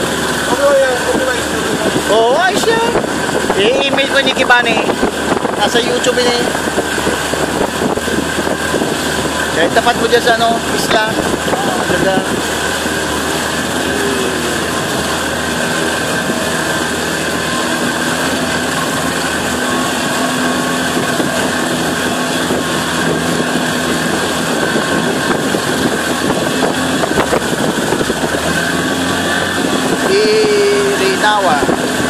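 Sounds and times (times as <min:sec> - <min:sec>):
outboard motor running: 0:00.0 - 0:32.0
rushing water: 0:00.0 - 0:32.0
water splashing: 0:00.0 - 0:32.0
wind: 0:00.0 - 0:32.0.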